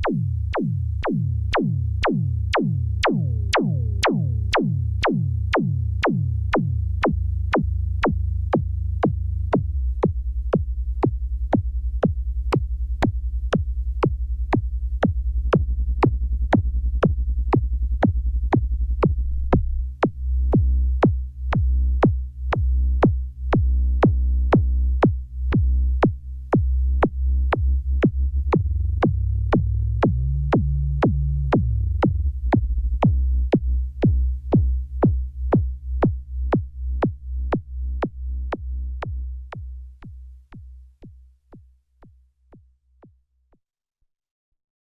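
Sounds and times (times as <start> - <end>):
droning synthesizer bass: 0.0 - 41.3
ticking drum machine beat: 0.0 - 42.7.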